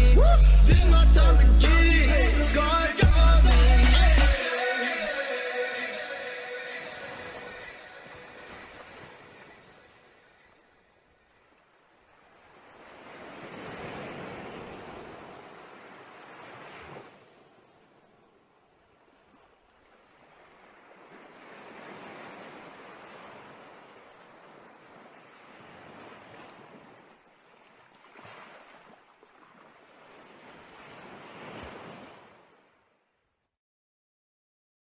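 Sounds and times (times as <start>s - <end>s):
ocean waves washing: 3.8s - 32.8s.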